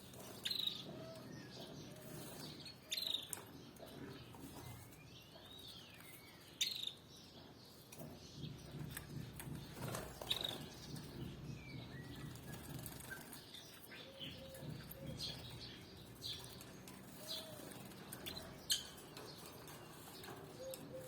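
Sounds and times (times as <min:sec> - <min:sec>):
canary chirps: 0:00.0 - 0:21.0.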